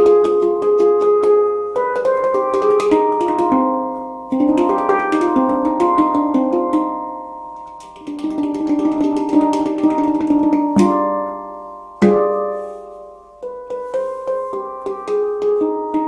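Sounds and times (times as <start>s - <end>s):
handpan ringing notes: 0.0s - 16.0s
strong handpan strike: 0.0s - 16.0s.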